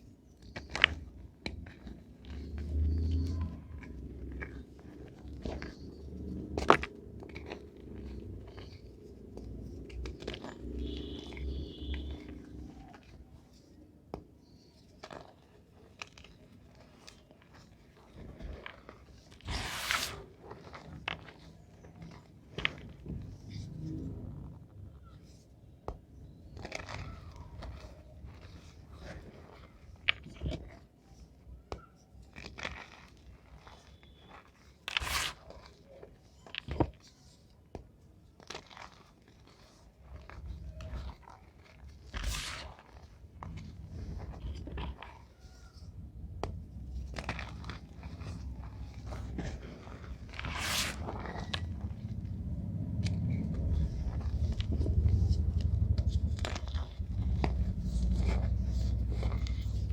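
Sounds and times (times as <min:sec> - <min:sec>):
chalk blocks crunching: 0:00.3 - 0:59.9.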